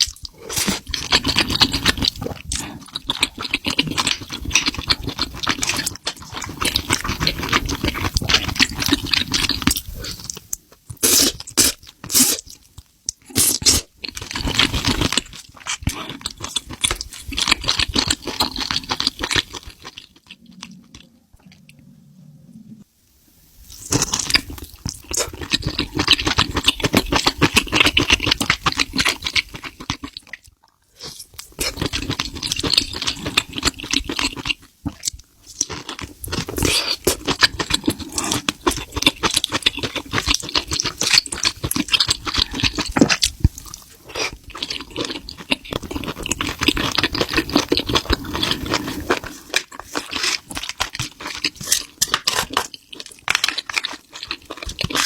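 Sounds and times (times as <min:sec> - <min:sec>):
person chewing crunchily: 0:00.0 - 0:21.6, 0:23.8 - 0:55.0.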